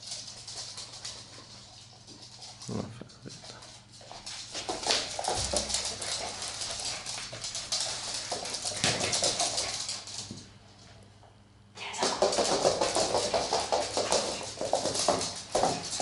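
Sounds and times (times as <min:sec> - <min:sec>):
dog claws clicking on wooden floor: 0:00.0 - 0:02.7, 0:03.3 - 0:10.6, 0:11.9 - 0:16.0.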